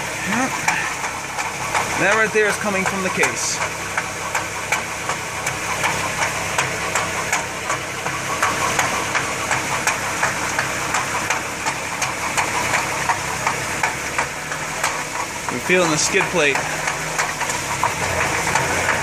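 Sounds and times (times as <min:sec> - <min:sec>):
differential ticking: 0:00.0 - 0:19.0
drivetrain drone: 0:00.0 - 0:19.0.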